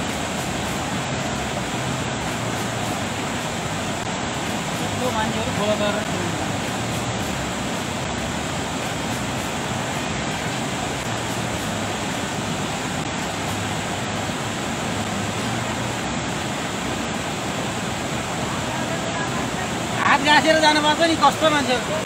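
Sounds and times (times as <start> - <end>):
river in flood rushing: 0.0 - 22.0.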